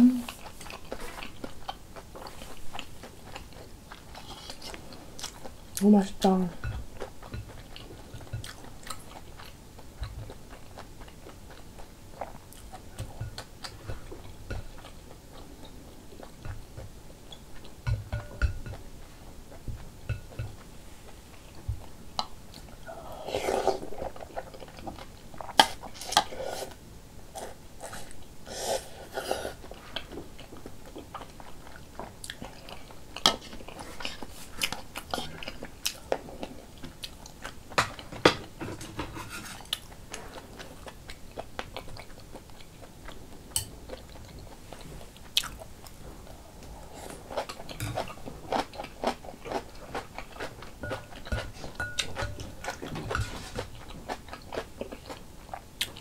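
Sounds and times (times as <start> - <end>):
person chewing and slurping: 0.2 - 5.8, 6.6 - 38.1, 39.2 - 56.0.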